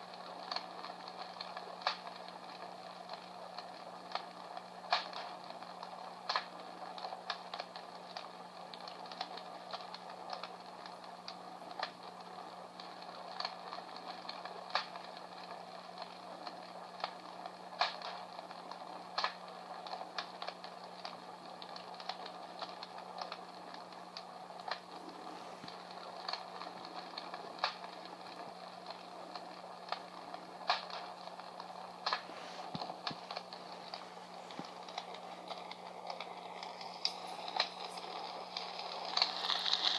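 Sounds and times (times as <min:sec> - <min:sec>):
low steady hum: 0:00.0 - 0:39.9
recorded fire crackling: 0:00.0 - 0:39.9
steady hiss: 0:00.0 - 0:39.9.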